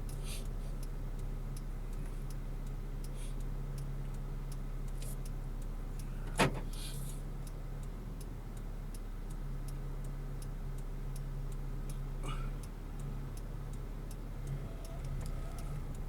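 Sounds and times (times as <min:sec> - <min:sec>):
car cabin drone: 0:00.0 - 0:16.0
faint even ticking: 0:00.0 - 0:16.0.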